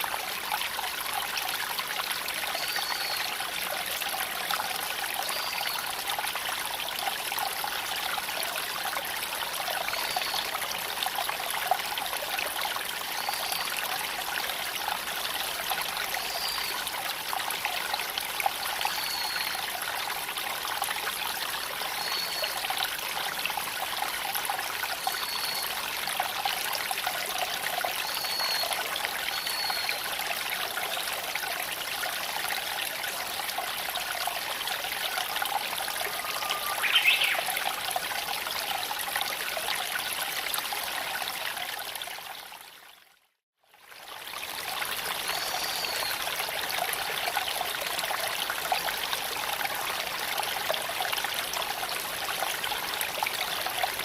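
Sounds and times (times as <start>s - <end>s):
creek trickling over stones: 0.0s - 54.0s.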